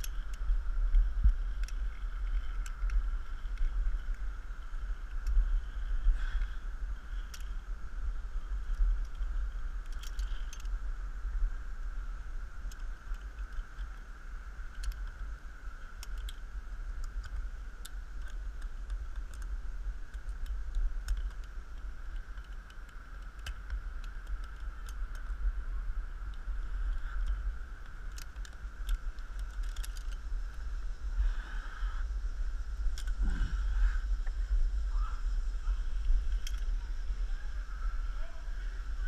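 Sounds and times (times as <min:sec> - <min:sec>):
wind on microphone: 0:00.0 - 0:39.0.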